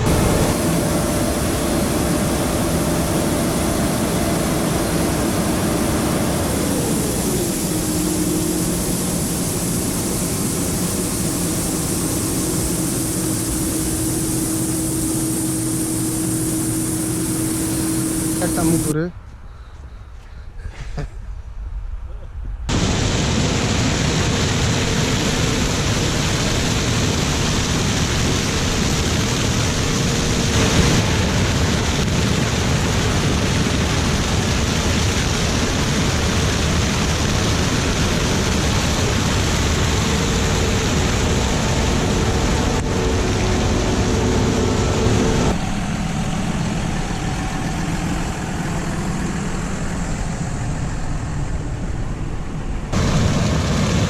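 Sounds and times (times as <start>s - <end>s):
harvest machinery engine running: 0.0s - 19.1s, 22.7s - 54.0s.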